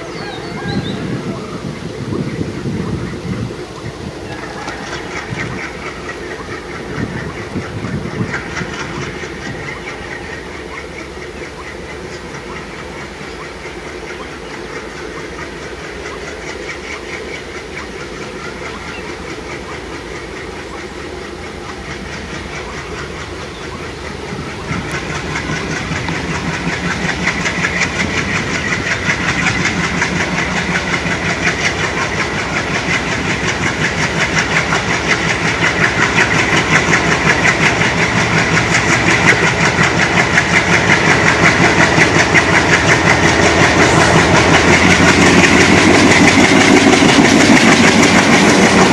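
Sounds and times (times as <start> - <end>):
diesel locomotive engine running: 0.0 - 48.9.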